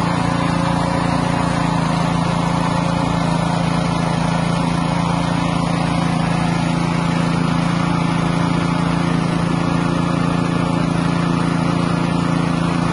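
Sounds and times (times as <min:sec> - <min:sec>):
motor humming steadily: 0:00.0 - 0:12.9.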